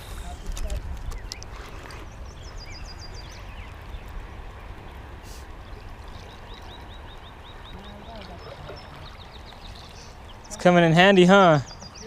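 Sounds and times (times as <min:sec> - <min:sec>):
river water rushing: 0:01.5 - 0:12.0.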